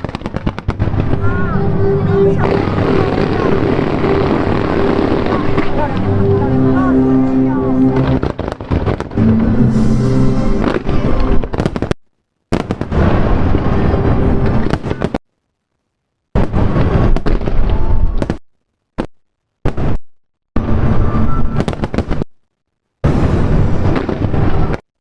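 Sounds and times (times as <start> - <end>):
fireworks bangs and crackling: 0.0 - 15.2, 16.4 - 18.4, 19.0 - 22.3, 23.0 - 24.9.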